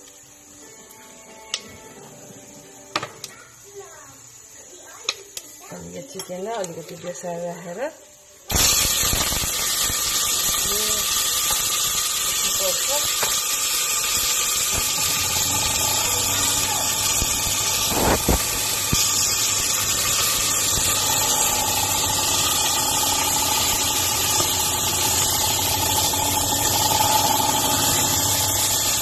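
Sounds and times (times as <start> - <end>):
chicken sizzling in hot oil: 2.9 - 29.0.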